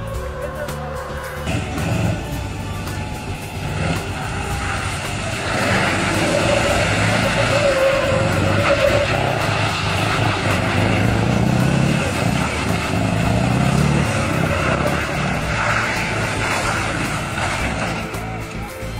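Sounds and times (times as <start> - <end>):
diesel truck engine revving: 0.0 - 18.9
high tyre squeal: 0.0 - 18.9.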